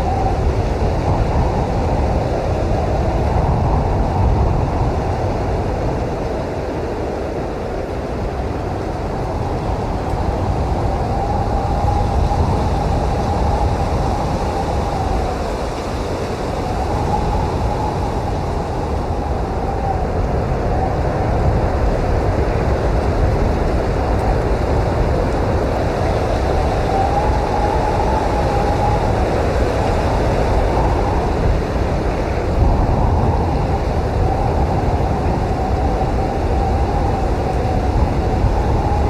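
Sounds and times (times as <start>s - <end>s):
snowstorm wind blowing hard: 0.0s - 39.0s.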